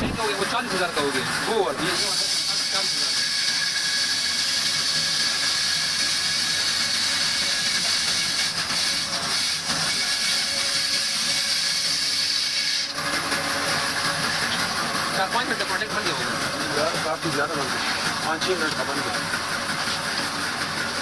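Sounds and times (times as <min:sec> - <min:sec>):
band saw cutting cardboard: 0:00.0 - 0:21.0.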